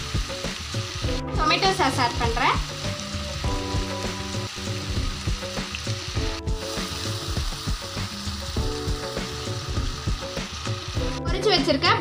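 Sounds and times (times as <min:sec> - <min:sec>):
masala sizzling in frying pan: 0:00.0 - 0:12.0.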